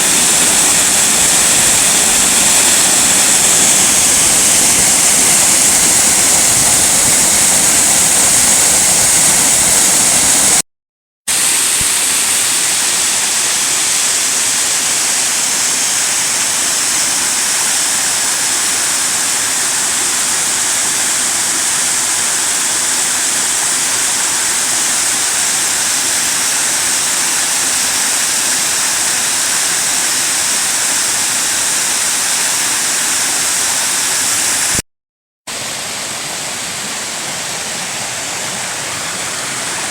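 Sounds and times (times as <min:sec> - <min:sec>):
waterfall roaring: 0:00.0 - 0:10.6, 0:11.3 - 0:34.8, 0:35.5 - 0:39.9.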